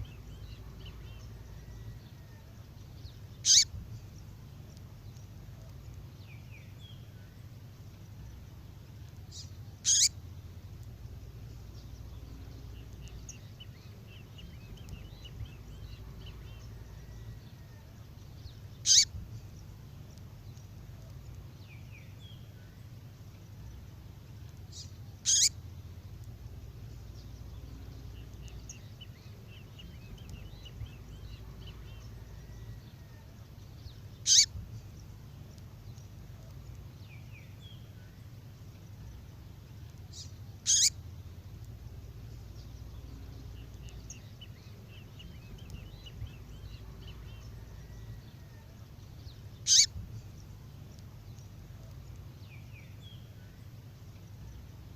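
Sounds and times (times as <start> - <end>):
songbird calls: 0.0 - 7.4, 8.1 - 54.9
faint bird twittering: 0.0 - 54.9
low hum: 0.0 - 54.9.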